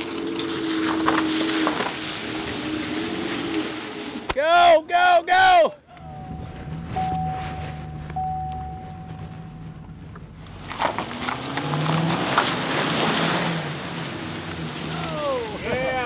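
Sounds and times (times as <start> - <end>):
pickup truck engines running: 0.0 - 16.0.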